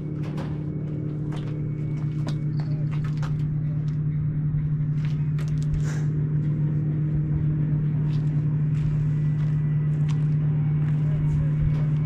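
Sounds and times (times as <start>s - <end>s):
steady engine drone: 0.0s - 12.0s.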